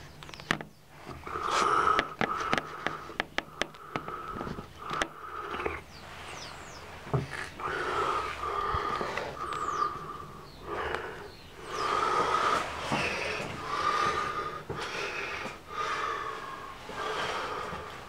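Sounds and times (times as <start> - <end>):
small birds chirping: 0.0 - 17.8
person breathing heavily: 1.2 - 5.9, 7.5 - 18.0.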